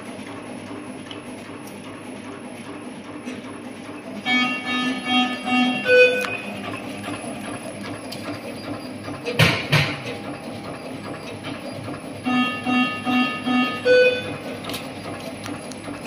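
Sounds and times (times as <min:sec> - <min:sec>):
label cutting machine running: 0:00.0 - 0:16.0.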